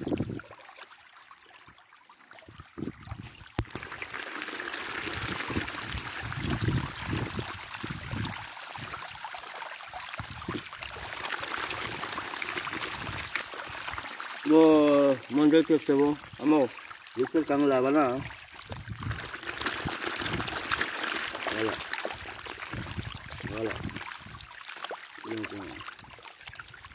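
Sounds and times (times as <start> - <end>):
water running and pouring: 0.0 - 26.9.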